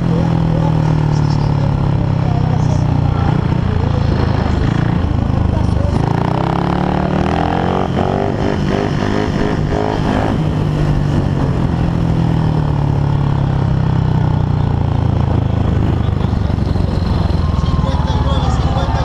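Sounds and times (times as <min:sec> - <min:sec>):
racing motorcycle engine: 0:00.0 - 0:19.0.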